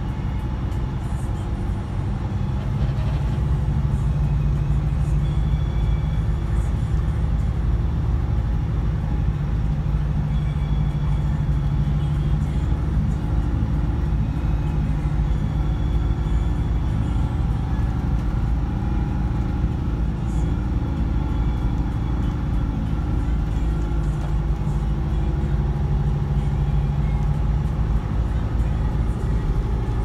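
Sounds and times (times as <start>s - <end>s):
diesel bus engine hum: 0.0s - 30.0s.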